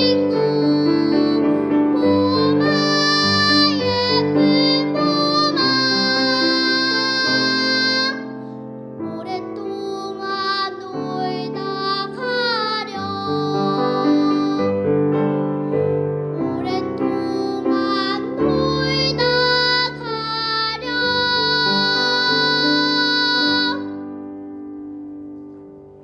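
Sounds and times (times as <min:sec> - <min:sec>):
child singing: 0:00.0 - 0:08.4, 0:09.0 - 0:14.9, 0:16.3 - 0:24.0.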